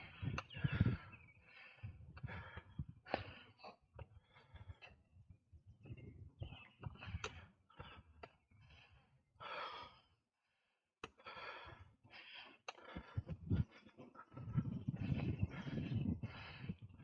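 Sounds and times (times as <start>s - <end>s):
person breathing heavily: 0.0s - 5.1s, 6.9s - 17.0s.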